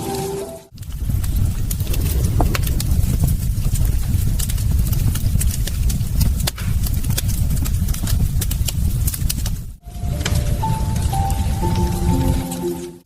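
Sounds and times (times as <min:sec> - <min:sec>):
fire crackling and popping: 0:00.7 - 0:13.0
low rumble of flames: 0:00.7 - 0:13.0.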